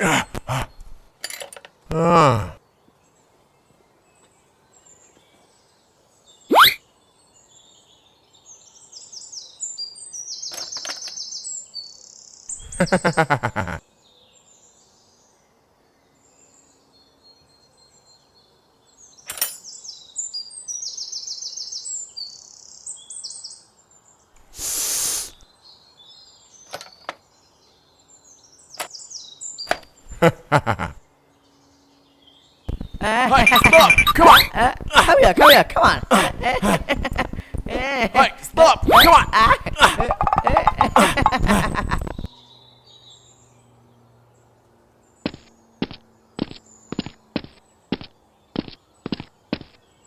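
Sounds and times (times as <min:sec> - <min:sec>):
small birds chirping: 0:00.0 - 0:01.2, 0:01.8 - 0:50.0.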